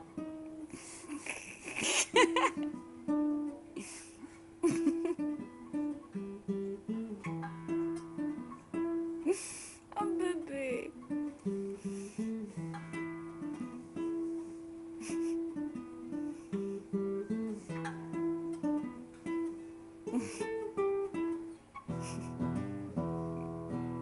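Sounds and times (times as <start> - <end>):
guitar playing: 0.0 - 0.9, 2.2 - 24.0.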